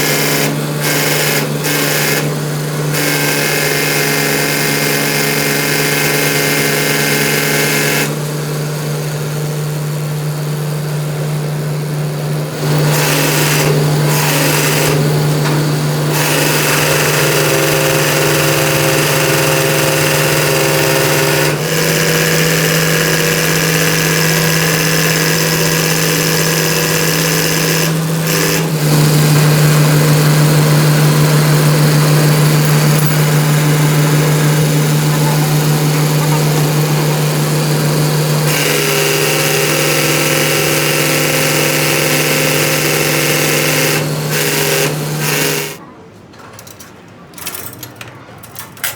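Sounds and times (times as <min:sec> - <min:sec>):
machine humming: 0:00.0 - 0:45.8.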